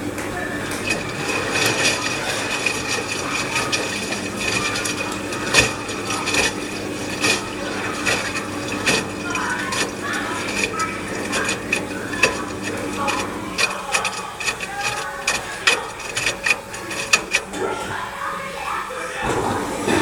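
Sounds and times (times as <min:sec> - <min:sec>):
washing machine drum humming: 0:00.0 - 0:20.0
laundry load knocking: 0:00.7 - 0:17.6.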